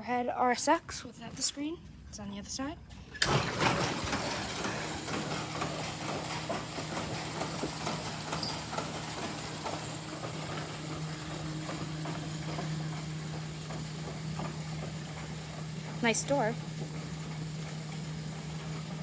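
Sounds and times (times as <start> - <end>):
low machine hum: 3.2 - 19.0.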